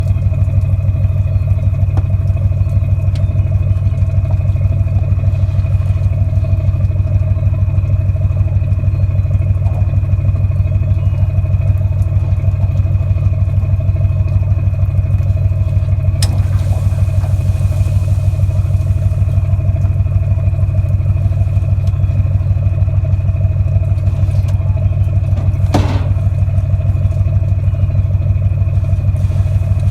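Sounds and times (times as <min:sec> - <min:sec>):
low mechanical drone: 0:00.0 - 0:29.9.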